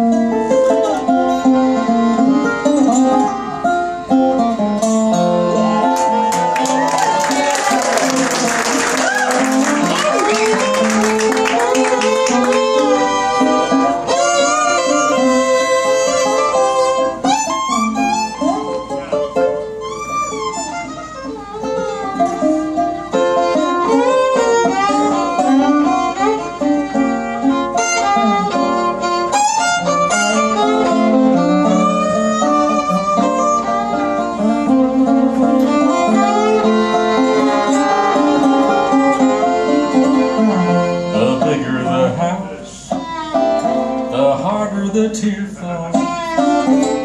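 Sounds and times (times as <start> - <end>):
fiddle playing melody: 0.0 - 47.0
resonator guitar: 0.0 - 47.0.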